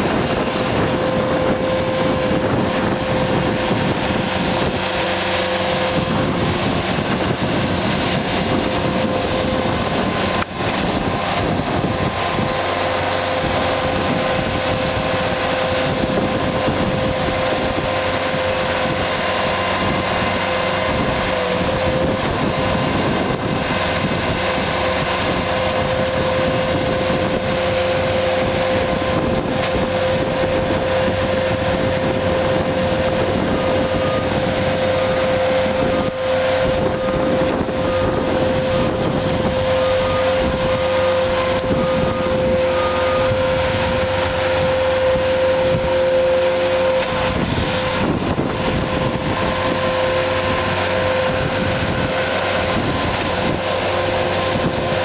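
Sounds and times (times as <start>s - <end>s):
constant tone: 0.0s - 55.0s
diesel engine running: 0.0s - 55.0s.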